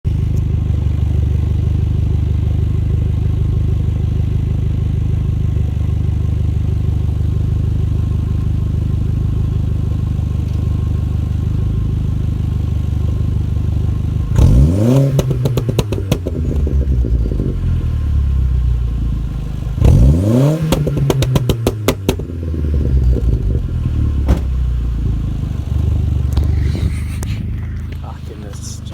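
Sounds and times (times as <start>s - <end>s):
car engine idling and revving: 0.1s - 28.9s
exhaust pops and crackles: 0.1s - 28.9s.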